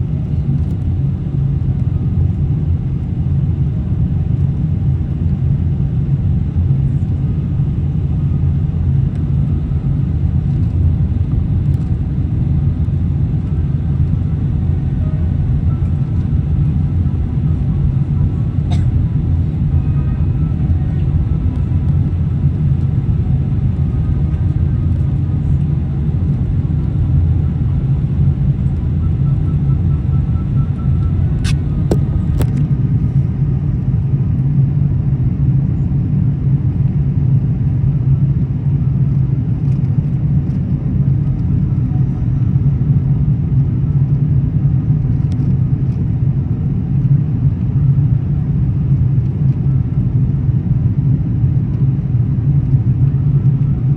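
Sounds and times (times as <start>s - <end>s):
airliner low rumble: 0.0s - 53.9s.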